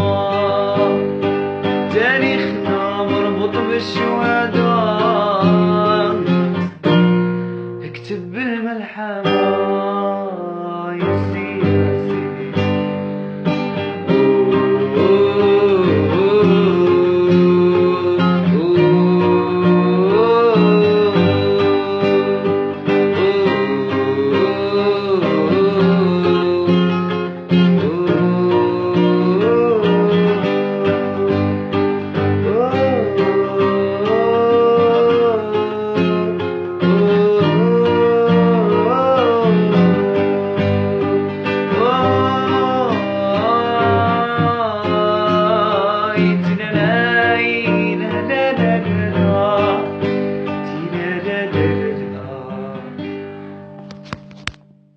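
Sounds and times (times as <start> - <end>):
plucked strings music: 0.0 - 54.9.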